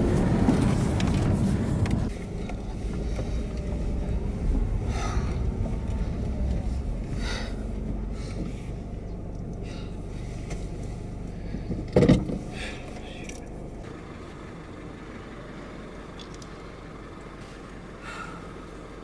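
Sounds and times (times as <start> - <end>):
car cabin rumble: 0.0 - 19.0.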